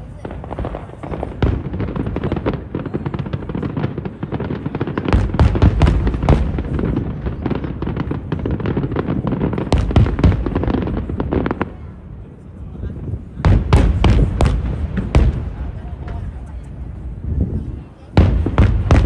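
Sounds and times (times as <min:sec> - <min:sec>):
fireworks bangs and booms: 0:00.0 - 0:19.0.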